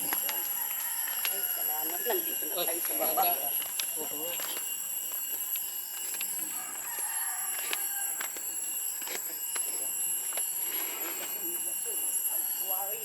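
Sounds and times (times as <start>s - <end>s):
insects shrilling: 0.0s - 13.0s.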